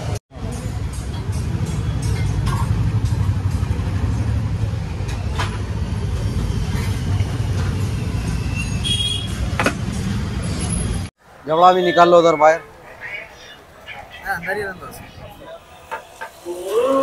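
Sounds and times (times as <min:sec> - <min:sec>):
traffic engines rumbling: 0:00.0 - 0:17.0.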